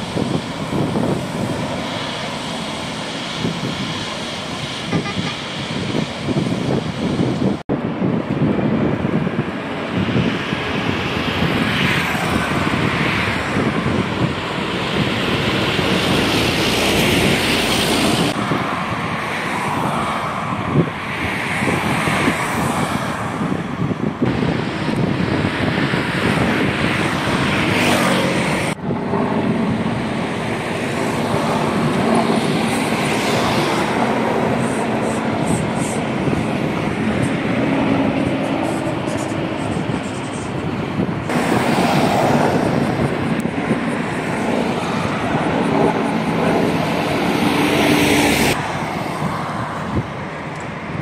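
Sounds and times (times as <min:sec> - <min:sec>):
road traffic rushing: 0:00.0 - 0:51.0.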